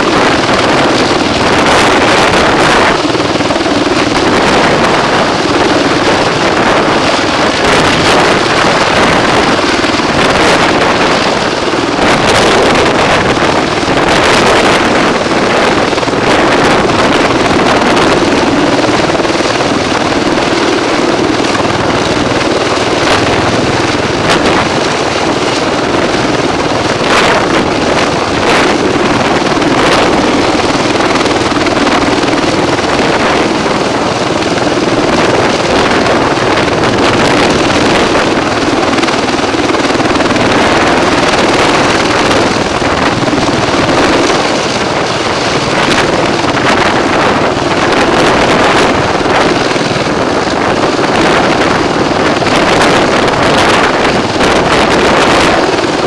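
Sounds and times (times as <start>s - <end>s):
helicopter hovering: 0.0s - 56.0s
wind buffeting microphone: 0.0s - 56.0s.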